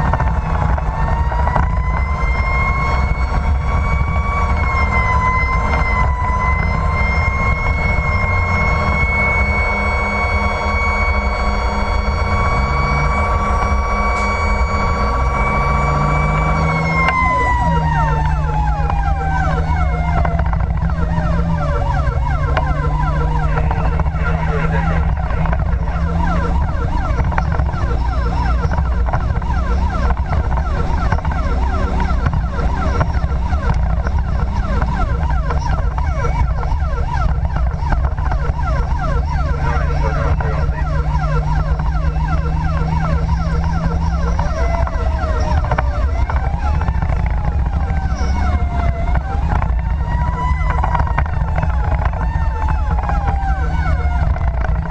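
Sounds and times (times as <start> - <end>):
fire engine drone: 0.0 - 54.9
siren sweeping up and down: 0.0 - 54.9
siren winding down: 0.0 - 54.9.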